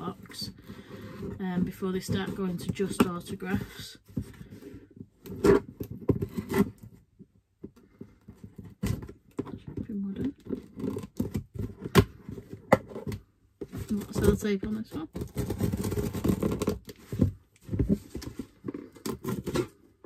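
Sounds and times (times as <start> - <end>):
cardboard box knocks and scrapes: 0.5 - 7.0, 8.0 - 19.8.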